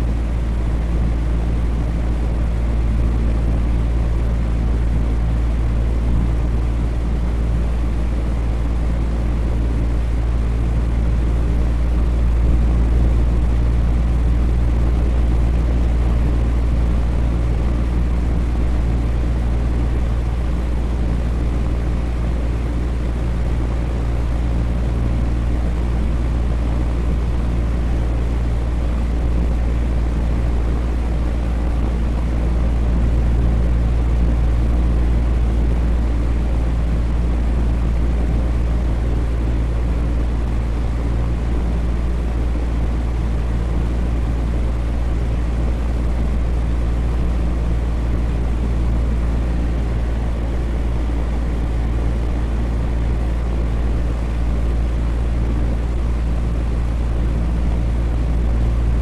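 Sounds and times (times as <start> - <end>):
electric fan whooshing: 0.0 - 59.0.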